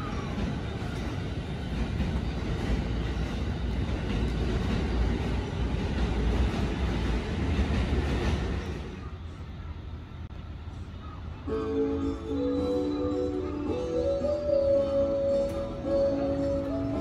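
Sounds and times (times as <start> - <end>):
electric train accelerating: 0.0 - 17.0.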